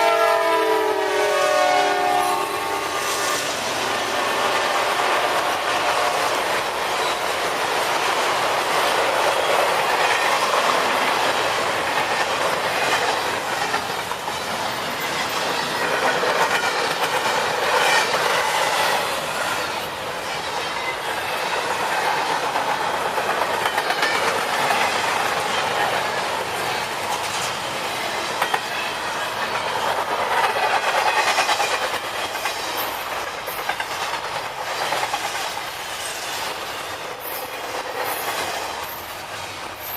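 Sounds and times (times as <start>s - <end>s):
freight train rumbling past: 0.0s - 39.9s
wheels clacking over rail joints: 3.7s - 39.9s.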